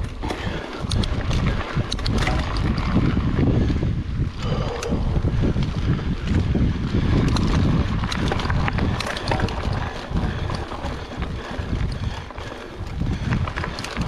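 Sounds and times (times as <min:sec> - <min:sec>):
tyres rolling over gravel: 0:00.0 - 0:03.7, 0:05.4 - 0:14.0
bike clicking and rattling: 0:00.0 - 0:14.0
wind buffeting microphone: 0:00.0 - 0:14.0.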